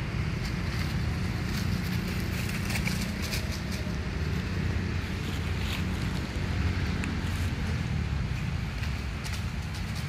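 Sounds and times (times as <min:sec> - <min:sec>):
dry leaves crackling: 0:00.0 - 0:10.0.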